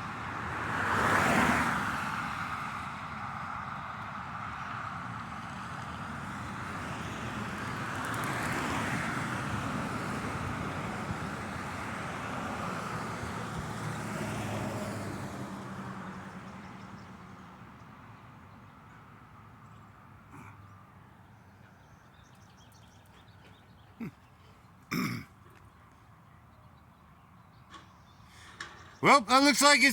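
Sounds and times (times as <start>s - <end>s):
cars driving past: 0.0s - 25.1s.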